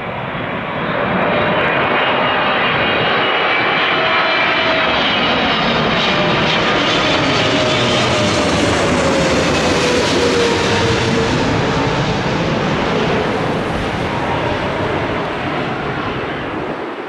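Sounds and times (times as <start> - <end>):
jet engines passing: 0.0 - 17.0.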